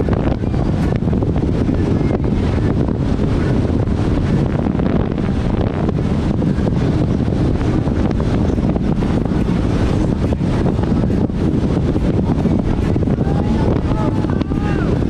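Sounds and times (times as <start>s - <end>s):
boat engine and hull rumble: 0.0s - 15.0s
wind buffeting microphone: 0.0s - 15.0s.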